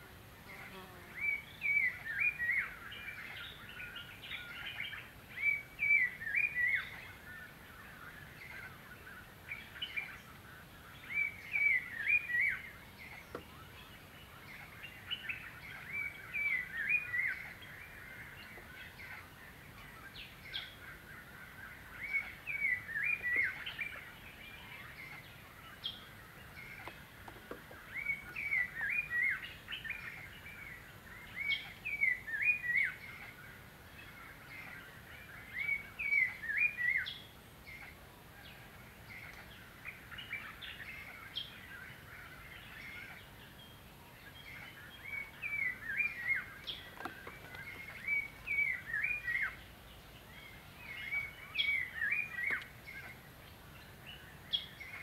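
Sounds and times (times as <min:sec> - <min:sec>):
faint steady hiss: 0:00.0 - 0:55.0
bird chirping: 0:00.4 - 0:55.0.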